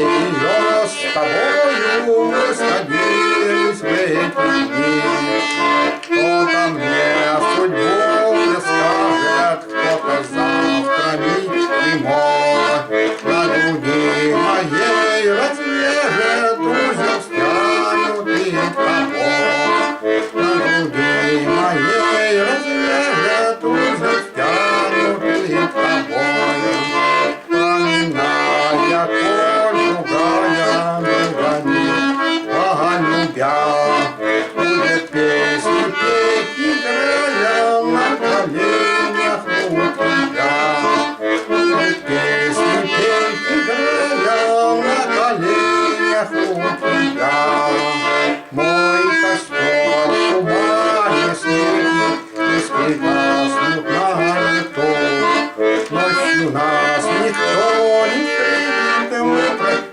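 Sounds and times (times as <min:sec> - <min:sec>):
button accordion playing: 0:00.0 - 0:59.9.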